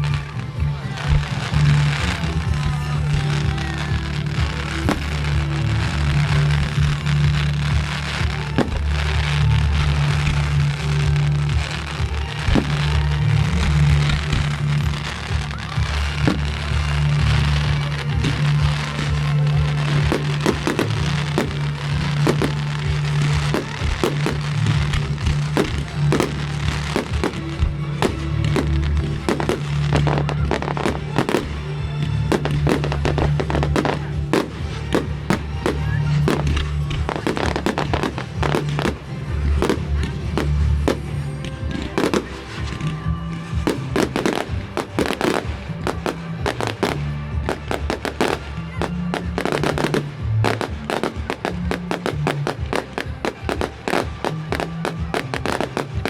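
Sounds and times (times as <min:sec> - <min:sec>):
firework bangs and crackles: 0:00.0 - 0:56.0
loud music with bass line: 0:00.0 - 0:56.0.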